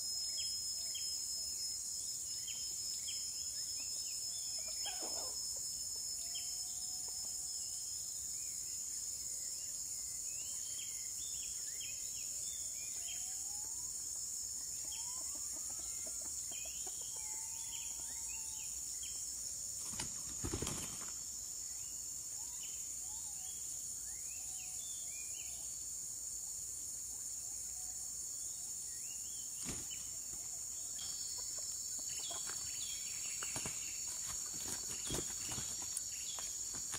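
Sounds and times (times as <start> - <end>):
high insect drone: 0.0 - 36.9.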